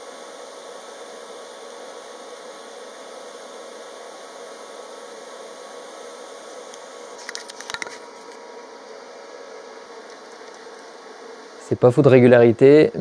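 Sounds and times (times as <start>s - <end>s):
welding arc hiss: 0.0s - 13.0s.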